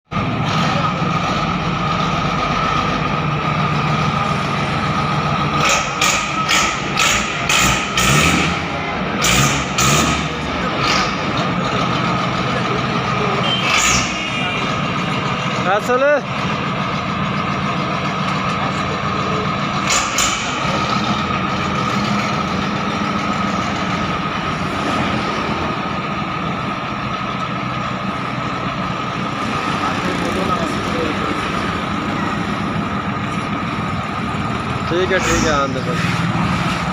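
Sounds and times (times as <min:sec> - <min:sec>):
tractor diesel engine running: 0:00.1 - 0:36.9.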